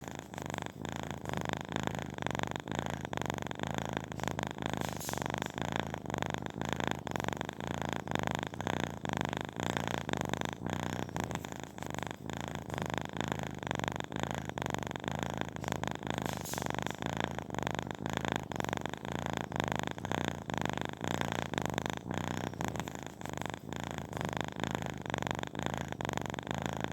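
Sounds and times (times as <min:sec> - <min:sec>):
kitten purring: 0:00.0 - 0:26.9.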